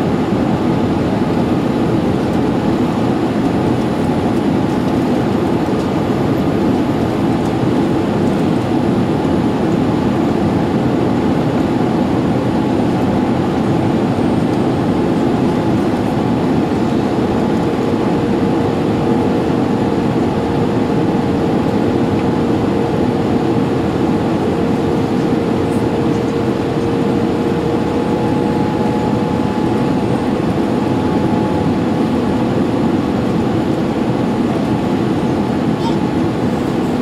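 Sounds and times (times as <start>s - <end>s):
airflow and jet engines roaring: 0.0s - 37.0s
steady cabin hum: 0.0s - 37.0s.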